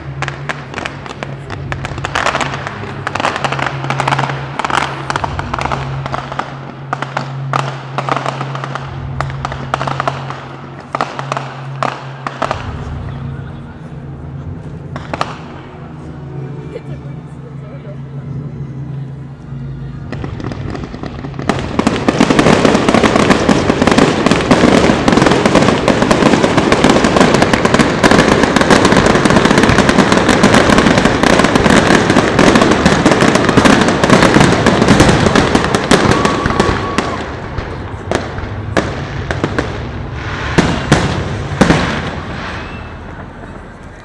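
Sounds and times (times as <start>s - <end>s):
fireworks crackling and banging: 0.0s - 44.0s.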